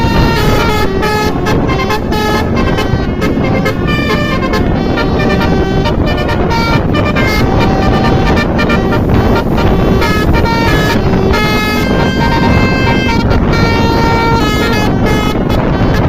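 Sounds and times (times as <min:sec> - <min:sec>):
multi-tone bus horn melody: 0:00.0 - 0:16.0
steady low rumble: 0:00.0 - 0:16.0.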